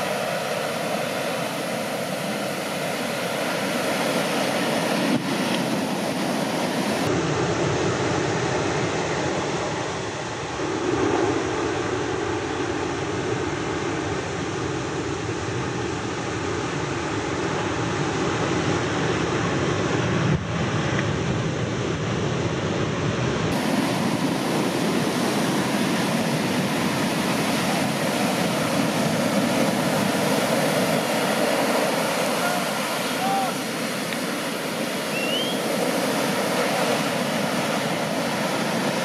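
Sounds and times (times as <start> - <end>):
surf breaking on shore: 0.0 - 21.7, 22.8 - 39.0.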